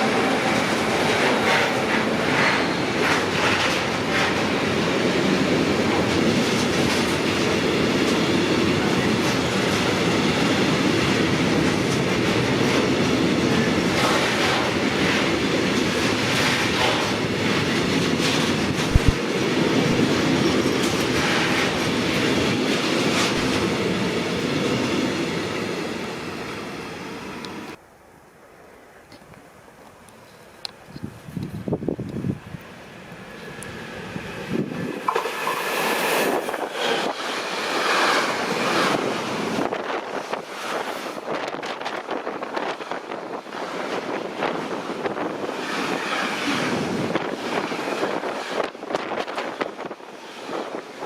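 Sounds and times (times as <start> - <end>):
train rail rumble: 0.0 - 27.8, 29.7 - 51.0.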